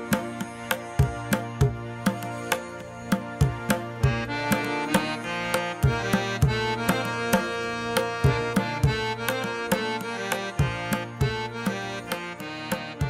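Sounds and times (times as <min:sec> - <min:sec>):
held melodic notes: 0:00.0 - 0:13.0.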